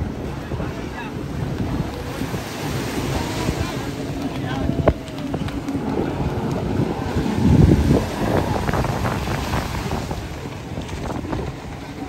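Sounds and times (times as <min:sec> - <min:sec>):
distant jet skis droning: 0:00.0 - 0:12.0
wind buffeting microphone: 0:00.0 - 0:12.0.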